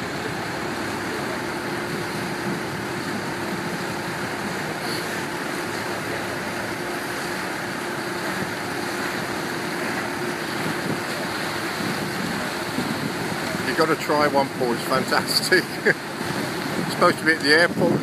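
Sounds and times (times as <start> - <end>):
wind buffeting microphone: 0.0 - 15.2, 16.1 - 18.0
boat engine hum: 0.0 - 18.0
water rushing past hull: 0.0 - 18.0.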